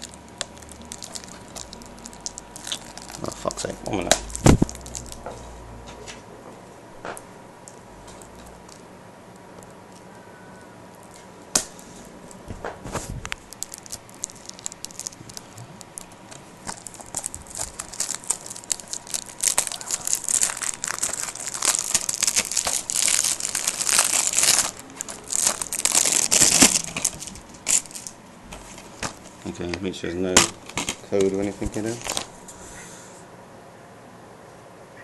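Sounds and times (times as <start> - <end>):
plastic wrap crinkling and tearing: 0.0 - 5.6, 7.6 - 10.1, 10.8 - 32.6.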